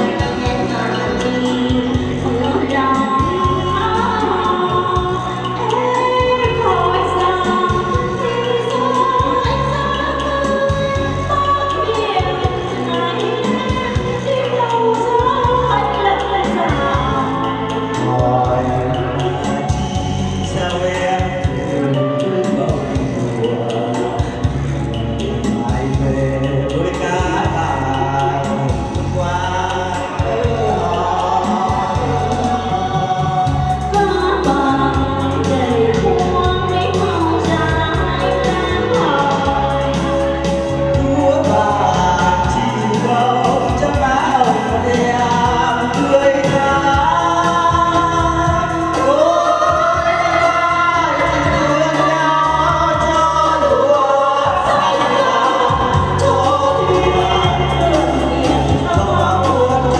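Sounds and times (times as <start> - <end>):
backing track with bass line: 0.0 - 59.9
man and women singing: 0.0 - 59.9.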